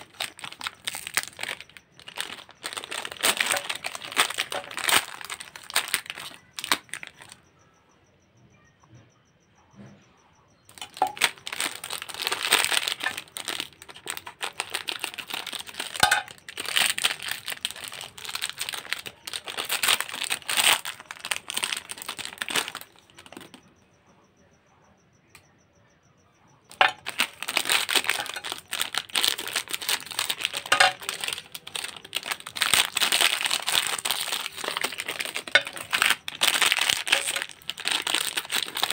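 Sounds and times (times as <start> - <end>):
lollipop wrappers crinkling: 0.0 - 7.4, 10.7 - 23.6, 26.7 - 38.9.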